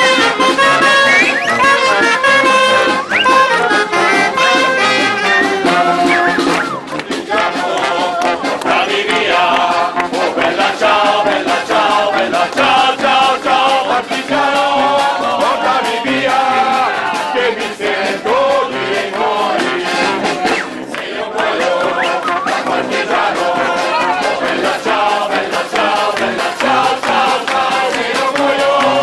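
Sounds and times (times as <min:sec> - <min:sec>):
group of voices singing: 0:00.0 - 0:29.0
street band music: 0:00.0 - 0:29.0.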